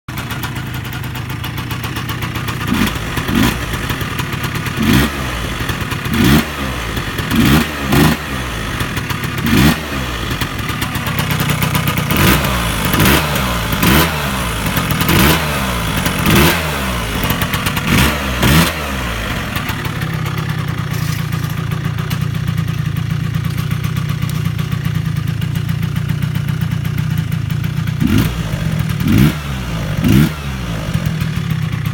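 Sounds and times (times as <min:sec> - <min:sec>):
scooter engine revving: 0:00.1 - 0:31.9.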